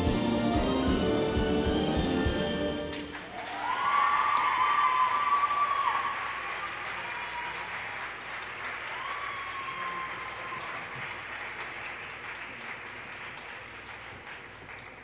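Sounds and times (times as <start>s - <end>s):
audience applauding: 2.6s - 15.0s.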